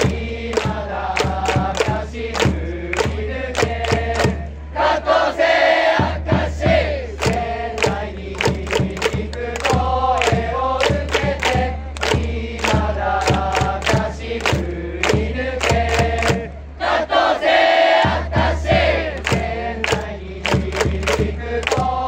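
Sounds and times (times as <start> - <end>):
steady drum beat: 0.0 - 4.5, 6.0 - 16.6, 18.0 - 22.0
crowd singing in unison: 0.0 - 22.0.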